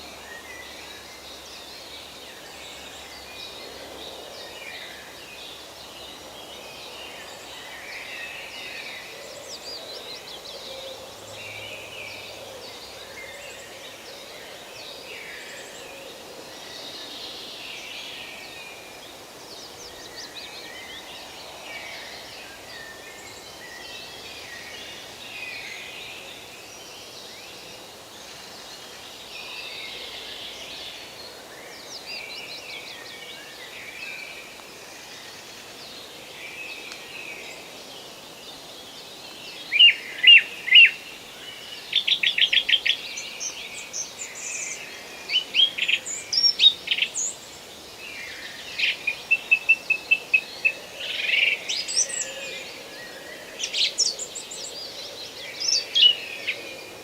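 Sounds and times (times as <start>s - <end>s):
distant songbirds chirping: 0.0s - 57.0s.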